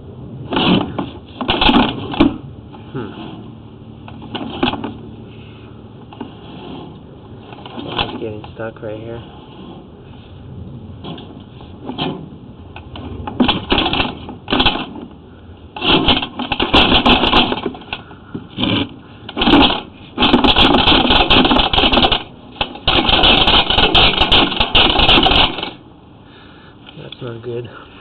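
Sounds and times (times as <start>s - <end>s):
cable rattling and scraping in pipe: 0.4s - 3.4s, 4.0s - 5.1s, 6.0s - 10.4s, 11.0s - 25.8s.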